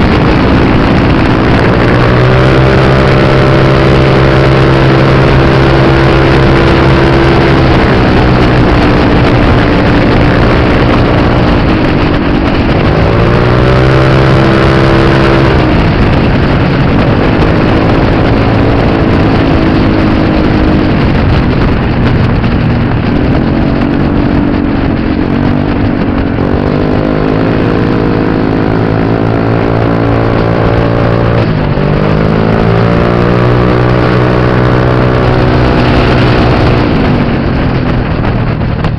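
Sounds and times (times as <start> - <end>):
motorbike engine accelerating: 0.0 - 38.9.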